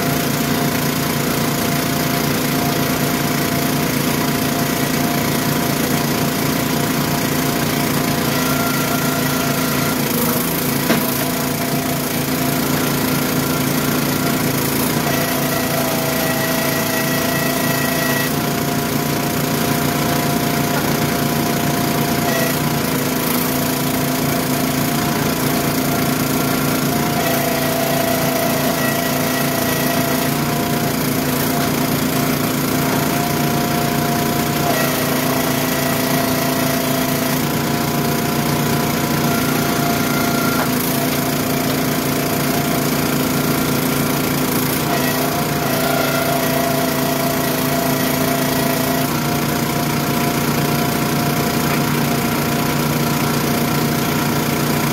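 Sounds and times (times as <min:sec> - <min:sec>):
log splitter engine running: 0:00.0 - 0:54.9.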